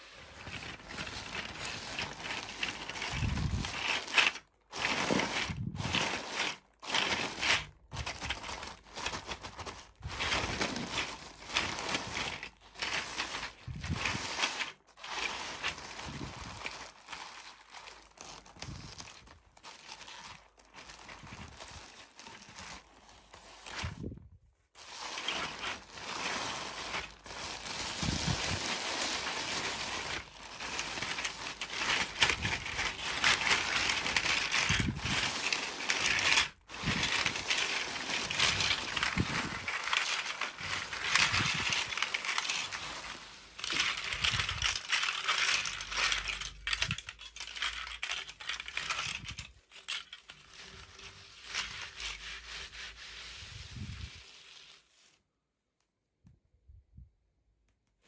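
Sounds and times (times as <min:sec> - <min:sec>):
plastic packaging crinkling: 0:00.0 - 0:55.2.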